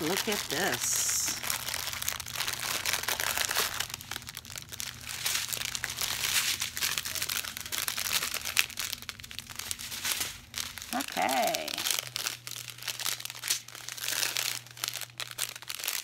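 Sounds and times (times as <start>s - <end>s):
packaging crinkling: 0.0s - 16.0s.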